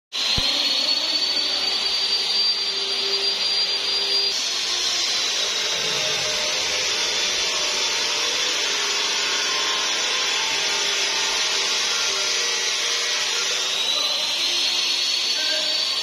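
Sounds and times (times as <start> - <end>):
faint high whine: 0.2 - 16.0
power tool hissing whir: 0.2 - 16.0.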